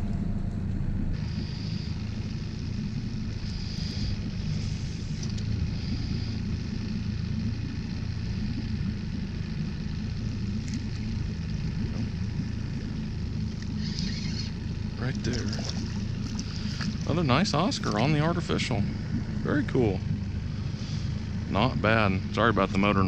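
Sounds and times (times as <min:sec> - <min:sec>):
boat motor rumbling: 0:00.0 - 0:23.0.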